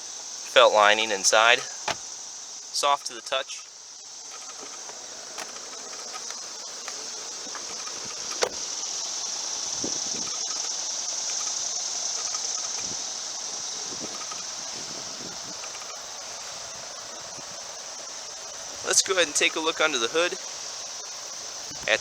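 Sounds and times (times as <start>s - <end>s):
crickets chorus: 0.0s - 22.0s.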